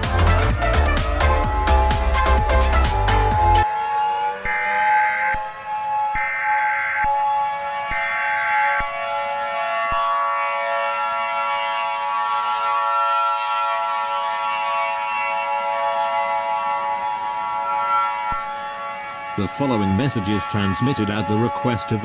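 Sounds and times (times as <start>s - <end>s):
siren-like alarm tone: 0.0s - 22.0s.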